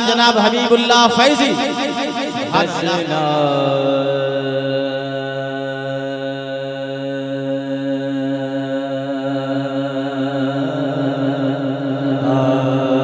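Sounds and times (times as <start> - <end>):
man singing long low note: 1.5 - 13.0.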